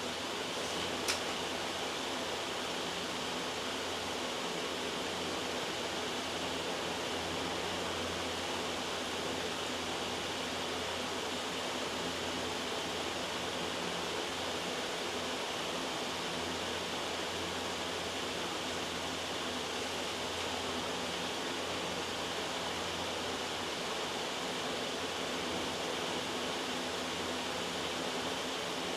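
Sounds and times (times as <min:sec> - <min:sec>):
steady white noise hiss: 0:00.0 - 0:28.9.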